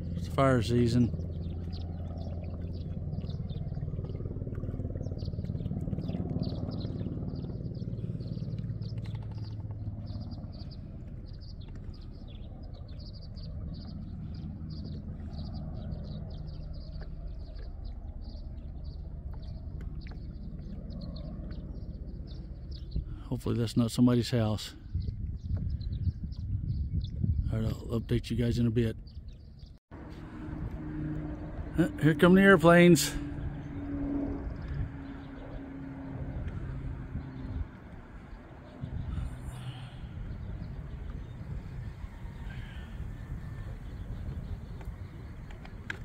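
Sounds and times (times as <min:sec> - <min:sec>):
low motor hum: 0:00.0 - 0:23.5, 0:24.7 - 0:46.0
small birds chirping: 0:00.0 - 0:29.8, 0:30.9 - 0:46.0.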